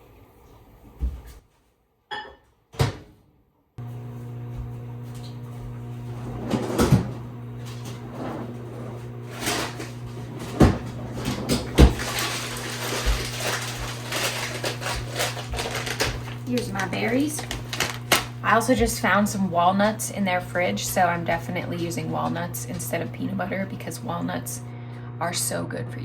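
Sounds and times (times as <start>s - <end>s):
microwave humming: 3.8s - 26.0s.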